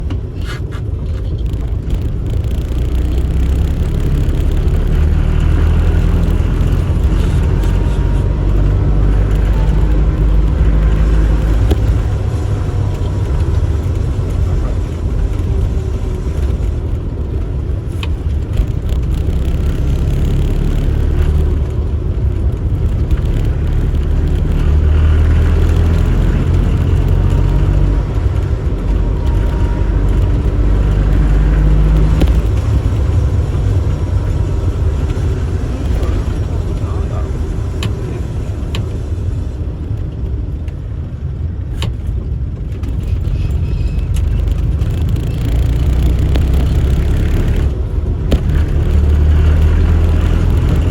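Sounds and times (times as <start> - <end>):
car engine drone: 0.0 - 50.9.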